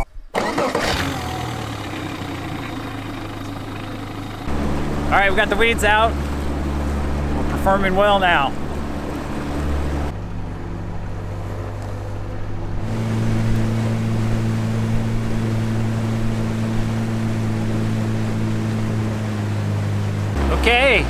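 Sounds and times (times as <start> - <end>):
wind: 0.0 - 21.0
boat motor droning: 0.4 - 21.0
water rushing past hull: 0.4 - 21.0.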